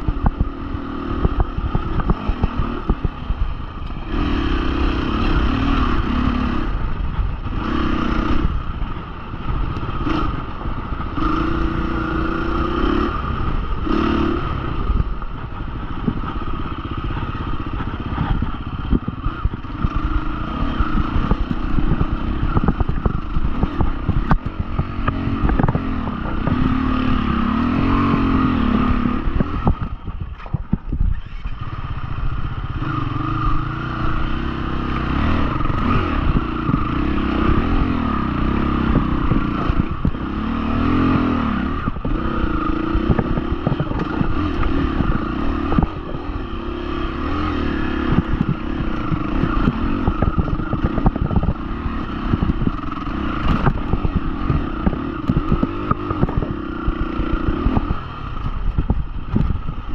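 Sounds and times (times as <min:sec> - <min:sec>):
motorcycle engine revving off-road: 0:00.0 - 0:59.9.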